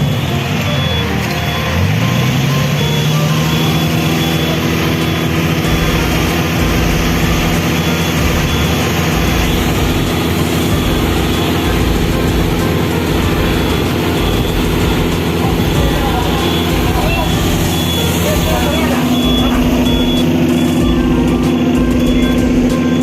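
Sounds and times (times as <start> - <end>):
vehicle engine revving: 0.0 - 23.0.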